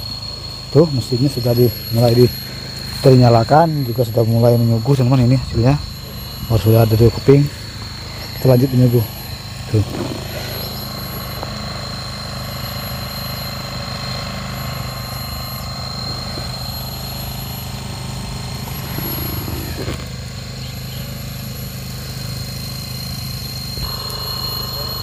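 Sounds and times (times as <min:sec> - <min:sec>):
wood-planing machine droning: 0:00.0 - 0:25.0.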